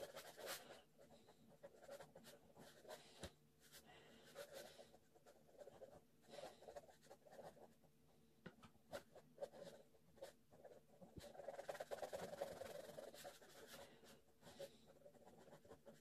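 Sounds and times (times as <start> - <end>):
pen scratching on paper: 0.0 - 7.8, 8.9 - 16.0.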